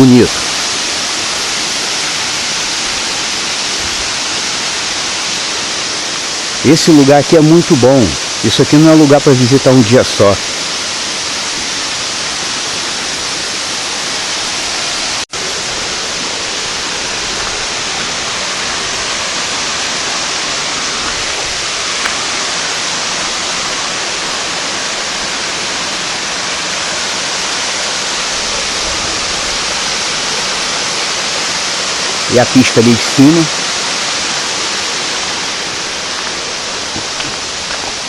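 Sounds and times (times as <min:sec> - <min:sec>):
river rushing over cascade: 0:00.0 - 0:38.0.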